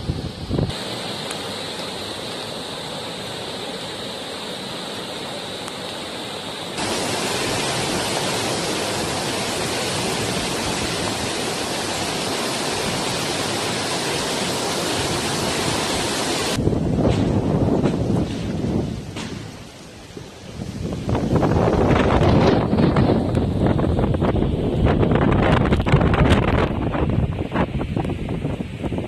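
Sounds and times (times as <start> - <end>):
floodwater rushing: 0.0 - 27.5.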